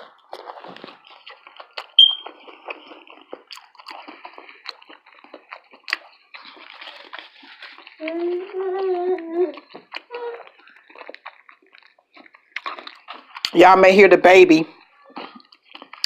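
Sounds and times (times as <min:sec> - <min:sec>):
wet chewing and mouth sounds: 0:00.0 - 0:14.0, 0:14.7 - 0:16.0.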